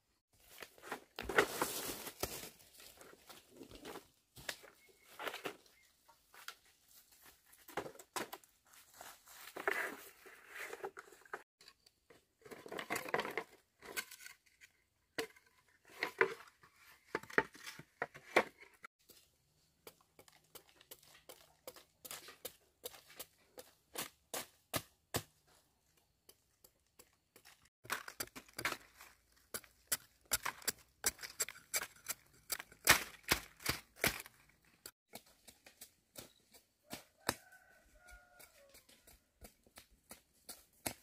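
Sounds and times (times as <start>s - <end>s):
bamboo sticks scraping and knocking: 0.4s - 41.0s.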